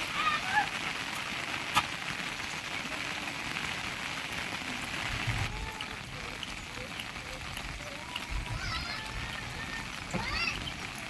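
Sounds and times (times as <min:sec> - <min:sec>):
steady rain patter: 0:00.0 - 0:11.0.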